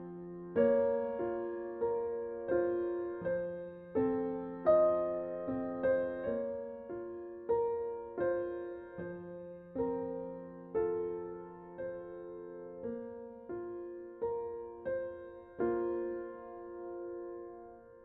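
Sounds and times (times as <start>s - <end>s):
slow gentle solo piano: 0.0s - 18.0s.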